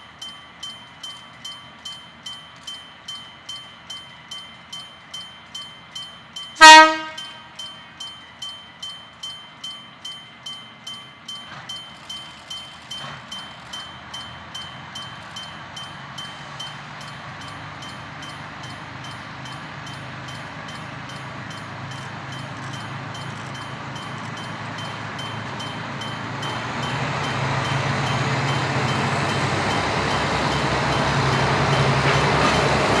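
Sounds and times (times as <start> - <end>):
diesel locomotive engine: 0.0 - 33.0
train running noise: 0.0 - 33.0.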